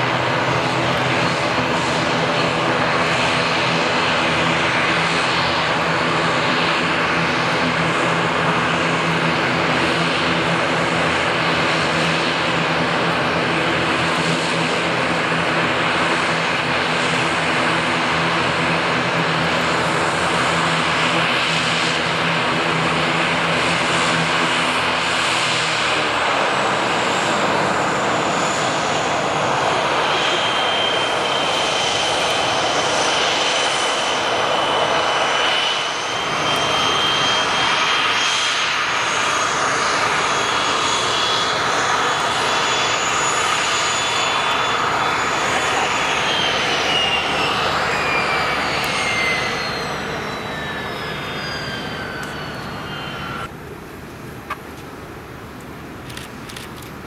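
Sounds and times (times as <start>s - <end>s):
turboprop engines droning: 0.0s - 57.0s
faint high whine: 0.2s - 57.0s.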